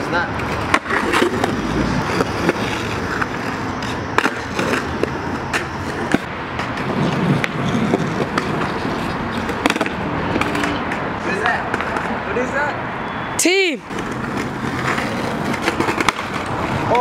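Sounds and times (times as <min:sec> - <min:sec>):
skateboard wheels rolling on concrete: 0:00.0 - 0:12.9, 0:13.8 - 0:17.0
skateboard clacking on pavement: 0:00.4 - 0:12.2, 0:13.9 - 0:17.0.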